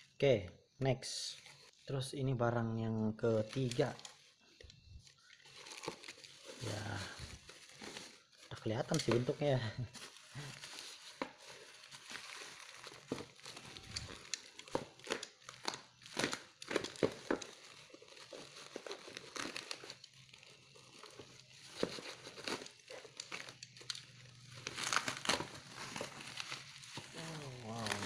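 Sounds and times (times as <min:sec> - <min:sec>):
plastic bag and tape crinkling: 0:03.2 - 0:28.0.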